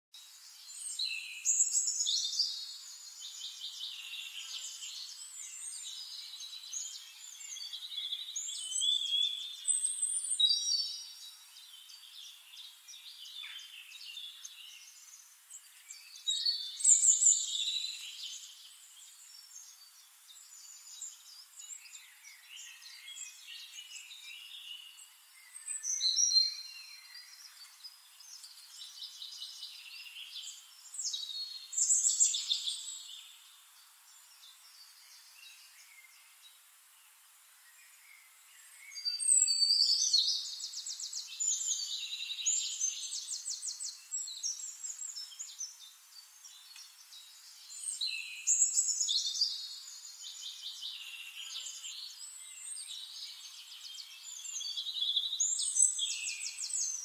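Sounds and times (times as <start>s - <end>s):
birds chirping and trilling: 0.2s - 57.0s.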